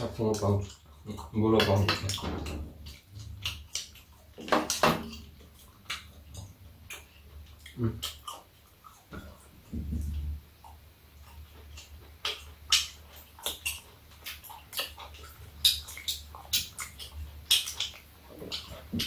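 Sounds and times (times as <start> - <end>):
people chewing and lip-smacking: 0.0 - 19.0.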